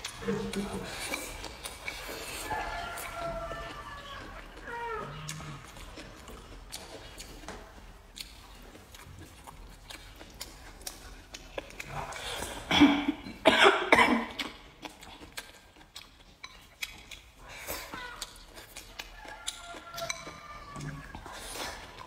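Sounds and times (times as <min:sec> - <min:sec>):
faint chewing: 0:00.0 - 0:13.4, 0:14.2 - 0:22.0.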